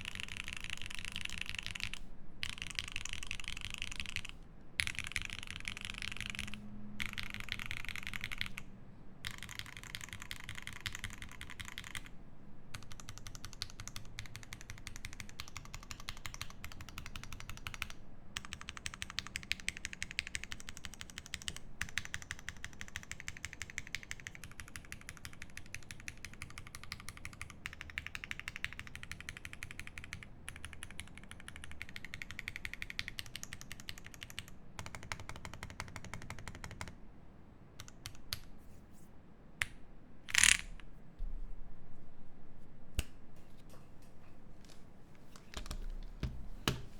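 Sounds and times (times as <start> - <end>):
mechanical keyboard typing: 0.0 - 12.1, 12.7 - 37.0, 37.8 - 38.5, 40.3 - 40.7, 45.5 - 46.9.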